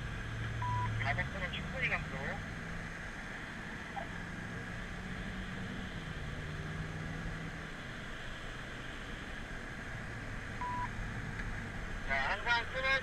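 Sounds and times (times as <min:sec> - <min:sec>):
car engine: 0:00.0 - 0:13.0
tyre and road noise: 0:00.0 - 0:13.0.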